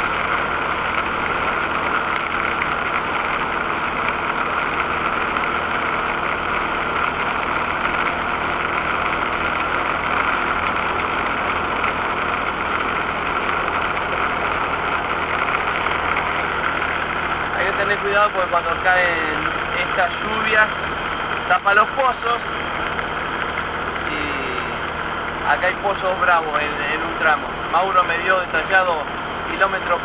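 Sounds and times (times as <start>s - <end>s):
pickup engine running: 0.0s - 30.0s.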